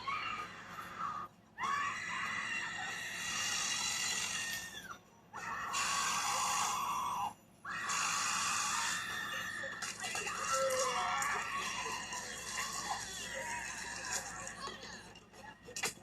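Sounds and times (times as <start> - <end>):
high-pitched screaming: 0.0 - 14.9.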